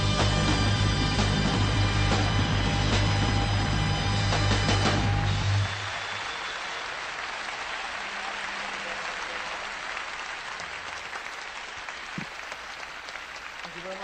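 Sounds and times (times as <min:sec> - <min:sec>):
audience applauding: 0:01.7 - 0:14.0.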